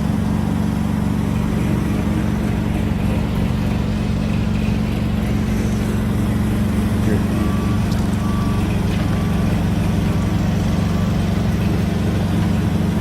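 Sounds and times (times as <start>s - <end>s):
large vehicle engine idling: 0.0s - 13.0s.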